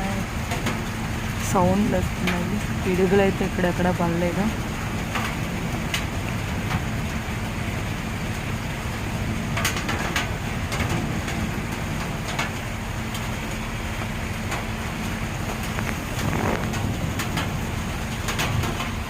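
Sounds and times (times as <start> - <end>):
heavy rain hissing: 0.0 - 19.0
low rumble: 0.0 - 19.0.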